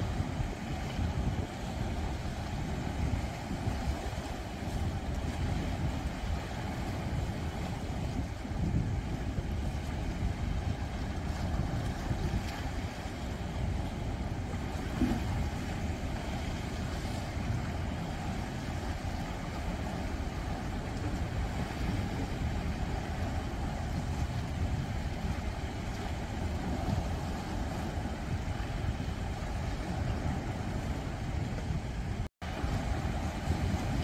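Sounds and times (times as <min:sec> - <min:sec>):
deep rumble of surf: 0:00.0 - 0:34.0
waves washing against rocks: 0:00.0 - 0:34.0.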